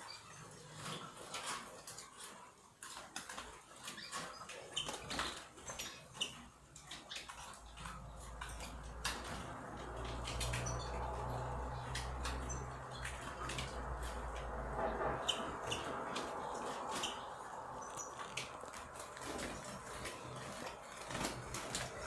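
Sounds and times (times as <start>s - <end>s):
finches chirping: 3.8s - 22.0s.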